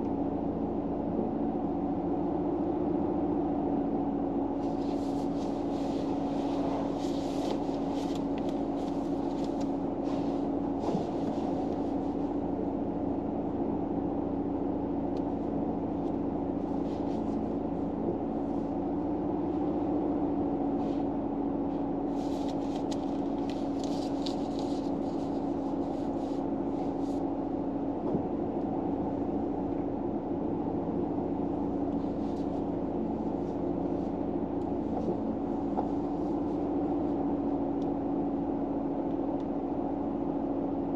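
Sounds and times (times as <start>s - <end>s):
car interior hum: 0.0s - 40.9s.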